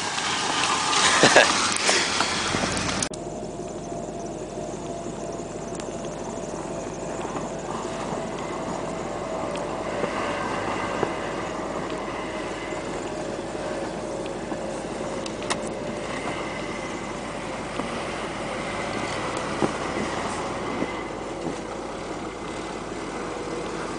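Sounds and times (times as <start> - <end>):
truck engines running: 0.0 - 23.9.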